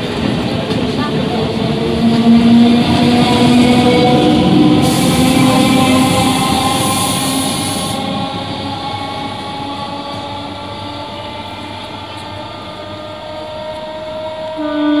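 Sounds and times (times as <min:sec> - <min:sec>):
train wheels rumbling on track: 0:00.0 - 0:15.0
train whining tones: 0:00.0 - 0:15.0
loud steady tone: 0:02.0 - 0:14.8.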